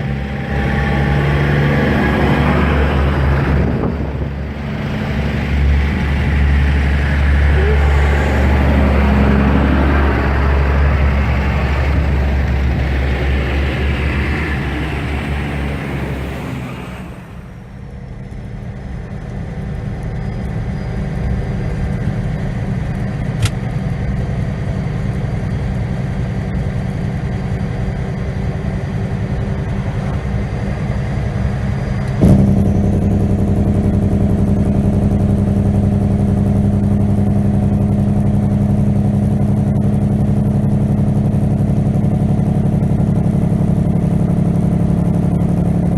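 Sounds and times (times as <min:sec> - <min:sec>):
road noise: 0:00.0 - 0:45.9
truck diesel engine running: 0:00.0 - 0:45.9.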